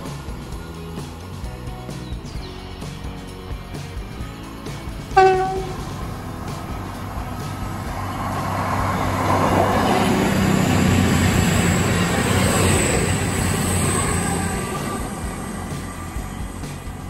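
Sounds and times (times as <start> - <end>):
diesel train passing at speed: 0.0 - 17.0.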